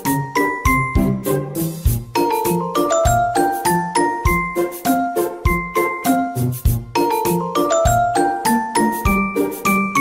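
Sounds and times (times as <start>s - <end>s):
tinkling bell-like melody: 0.0s - 10.0s.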